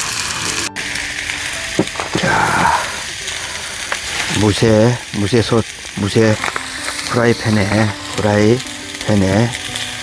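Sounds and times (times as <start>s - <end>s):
meat sizzling in a grill pan: 0.0s - 10.0s.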